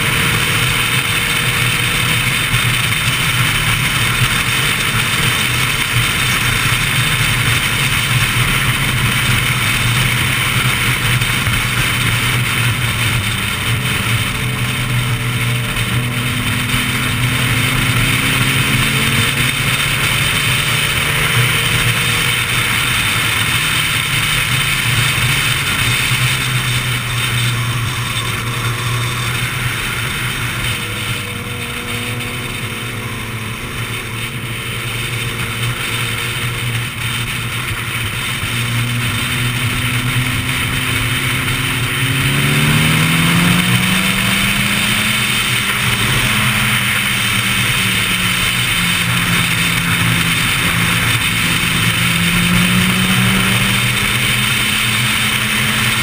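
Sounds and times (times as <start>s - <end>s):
faint engines of other motorcycles: 0.0s - 56.0s
motorcycle engine drone: 0.0s - 56.0s.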